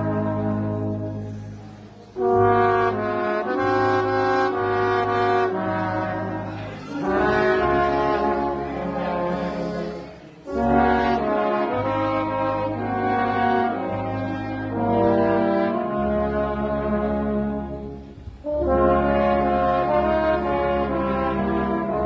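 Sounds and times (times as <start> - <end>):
brass ensemble playing a hymn: 0.0 - 22.0.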